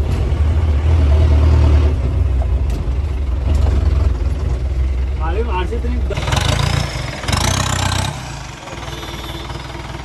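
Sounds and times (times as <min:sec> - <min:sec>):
jeep engine and loud exhaust: 0:00.0 - 0:10.0.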